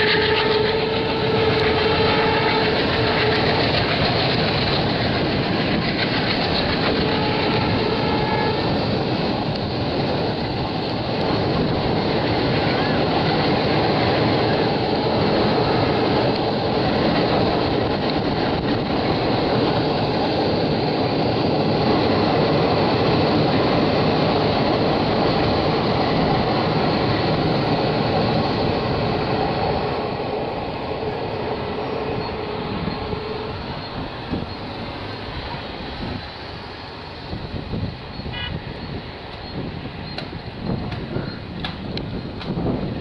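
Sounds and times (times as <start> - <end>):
diesel locomotive engines: 0.0 - 43.0
train coaches rolling on rails: 0.0 - 43.0.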